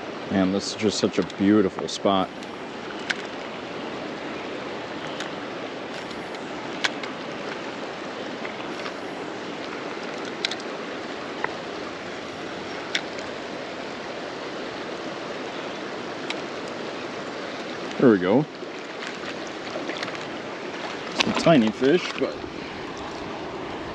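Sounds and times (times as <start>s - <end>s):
creek water flowing: 0.0s - 23.9s.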